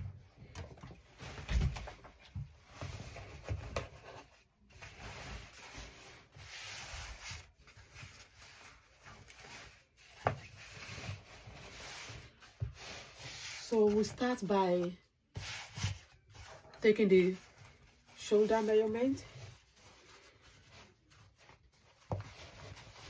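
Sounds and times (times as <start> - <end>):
fabric rustling and rubbing: 1.0 - 23.0.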